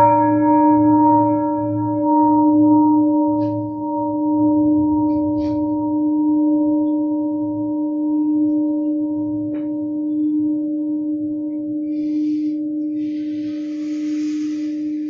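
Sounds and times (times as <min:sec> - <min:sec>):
faint wavering hum: 0:00.0 - 0:15.0
singing bowl ringing: 0:00.0 - 0:15.0.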